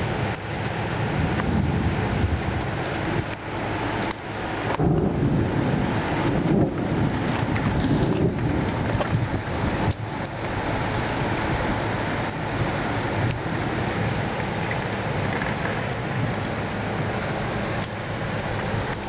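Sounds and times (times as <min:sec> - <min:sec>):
rain: 0:00.0 - 0:19.0
thunder rumbling: 0:00.0 - 0:19.0
wind: 0:00.0 - 0:19.0.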